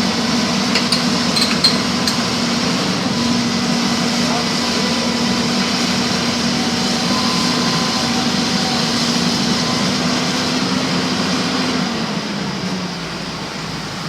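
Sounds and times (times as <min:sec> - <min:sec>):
backhoe diesel engine running: 0:00.0 - 0:11.7.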